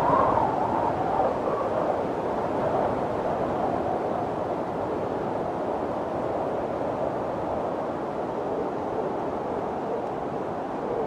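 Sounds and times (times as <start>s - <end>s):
snowstorm wind rushing: 0.0s - 11.0s.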